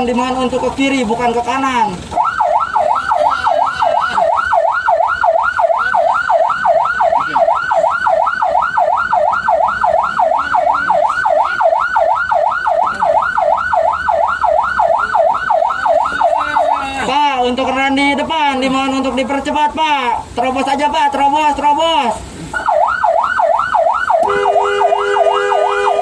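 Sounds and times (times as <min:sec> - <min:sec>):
ambulance siren yelping: 0:00.0 - 0:26.0.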